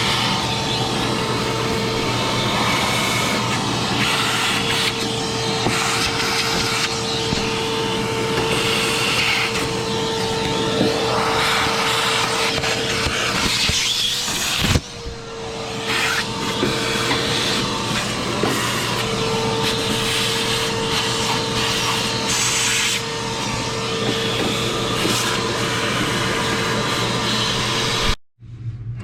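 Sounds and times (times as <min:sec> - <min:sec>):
shop vacuum motor whine: 0:00.0 - 0:28.2
vacuum nozzle scraping: 0:00.0 - 0:28.2.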